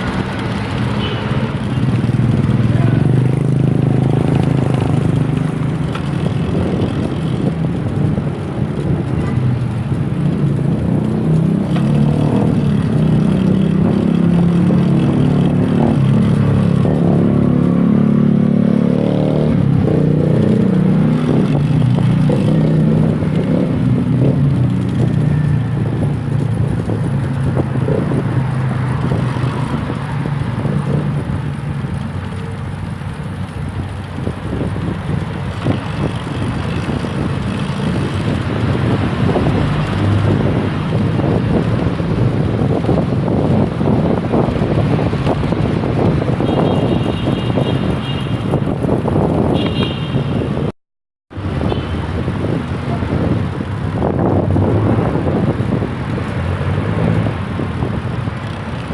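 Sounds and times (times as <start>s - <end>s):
bicycle road noise: 0.0s - 50.7s, 51.3s - 58.9s
vehicle engine hum: 0.0s - 50.7s, 51.3s - 58.9s
wind on microphone: 0.0s - 50.7s, 51.3s - 58.9s.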